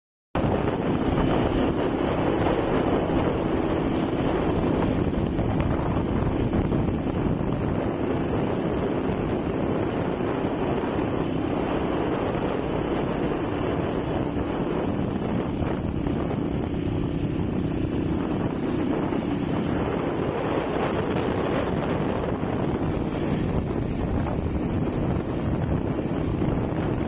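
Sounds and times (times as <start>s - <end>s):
faint motorcycle hum: 0.4s - 27.0s
wind buffeting microphone: 0.4s - 27.0s.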